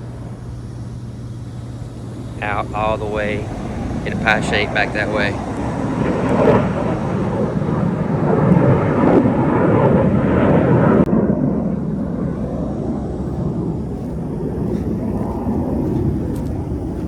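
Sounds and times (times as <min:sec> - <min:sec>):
jet aircraft roar: 0:00.0 - 0:17.0.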